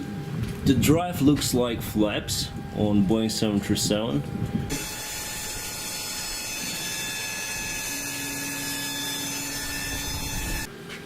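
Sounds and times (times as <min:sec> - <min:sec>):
low hum: 0:00.0 - 0:10.8
machinery whine and hiss: 0:00.0 - 0:10.8.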